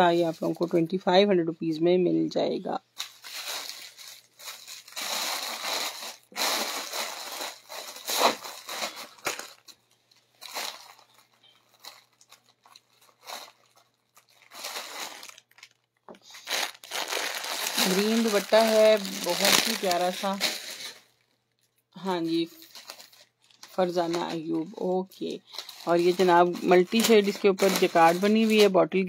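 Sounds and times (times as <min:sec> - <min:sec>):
plastic bag crinkling: 0:02.8 - 0:28.8.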